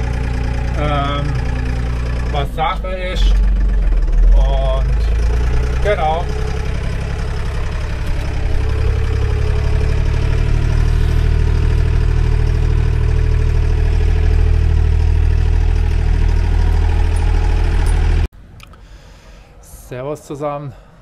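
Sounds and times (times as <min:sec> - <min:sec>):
tractor engine droning: 0:00.0 - 0:18.3.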